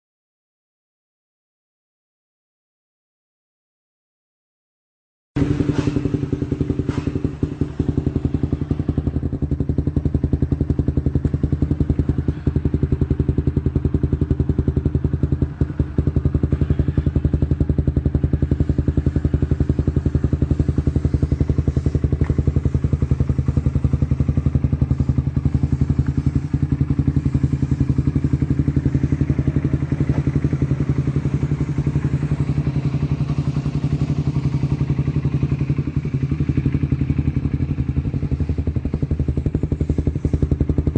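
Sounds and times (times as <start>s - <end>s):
motorcycle engine idling: 5.4s - 40.9s.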